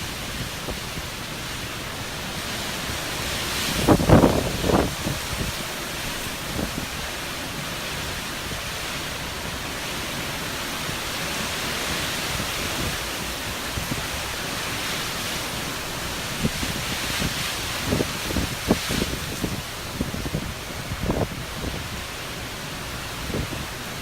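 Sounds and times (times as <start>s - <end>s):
hurricane wind blowing: 0.0s - 24.0s
wind gusts buffeting microphone: 0.0s - 24.0s.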